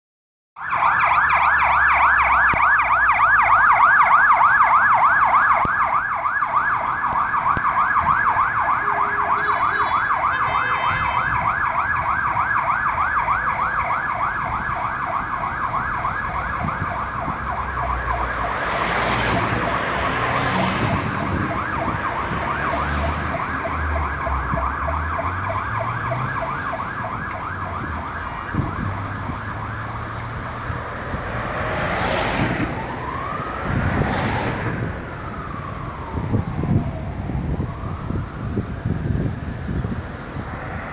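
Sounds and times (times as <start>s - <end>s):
ambulance siren wailing: 0.6s - 40.9s
low traffic rumble: 0.6s - 40.9s.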